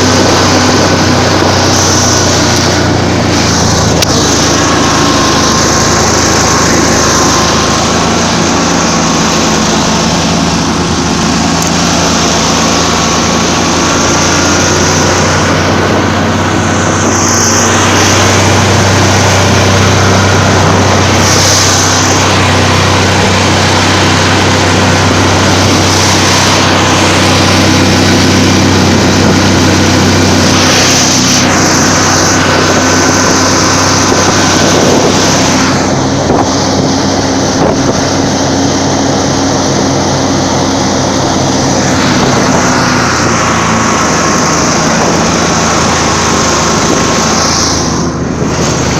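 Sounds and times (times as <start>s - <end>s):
snowmobile engine running: 0.0s - 48.9s.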